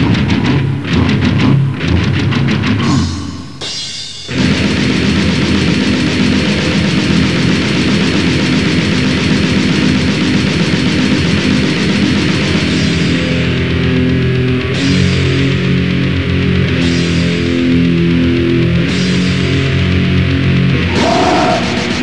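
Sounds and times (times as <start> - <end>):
distorted guitars: 0.0 - 22.0
fast drums: 4.3 - 22.0.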